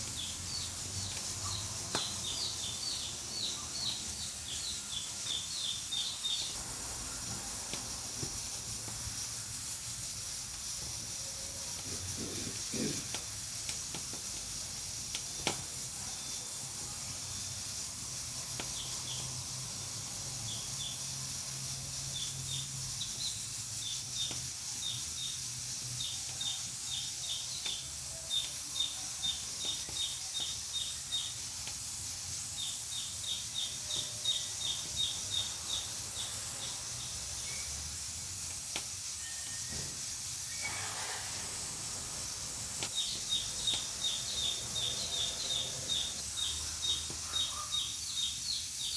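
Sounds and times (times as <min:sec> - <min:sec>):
steam hissing from pressure cooker: 0:00.0 - 0:48.9
wood fire crackling: 0:00.0 - 0:48.9.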